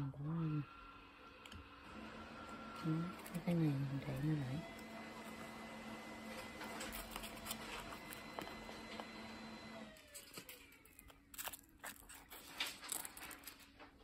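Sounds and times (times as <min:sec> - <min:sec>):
small motor humming: 0:00.0 - 0:13.7.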